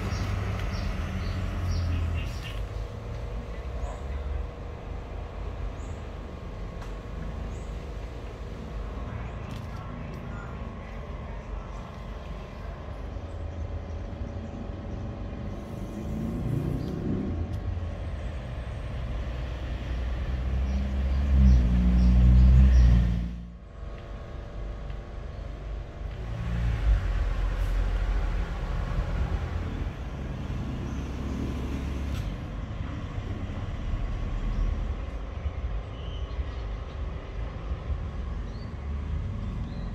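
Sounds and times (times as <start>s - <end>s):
passing road traffic rumble: 0.0s - 39.9s.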